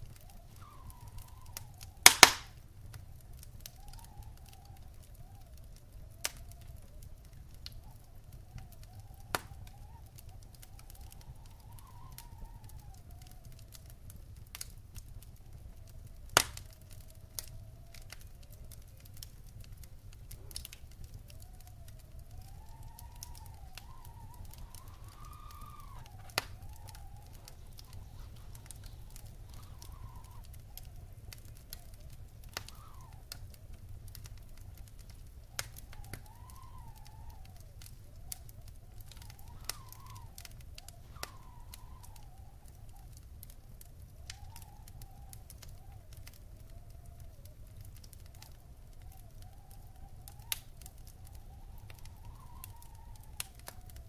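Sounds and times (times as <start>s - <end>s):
faint whistling tone: 0.0s - 54.0s
wood fire crackling: 0.0s - 54.0s.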